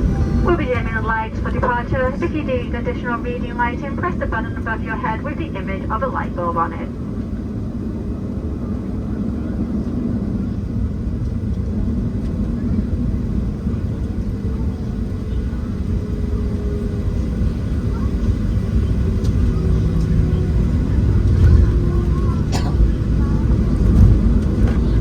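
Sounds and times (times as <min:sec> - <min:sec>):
aircraft cabin engine rumble: 0:00.0 - 0:25.0.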